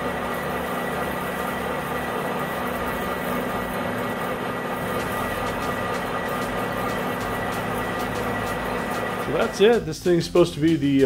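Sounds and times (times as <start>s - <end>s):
lathe drilling into metal: 0.0s - 9.7s.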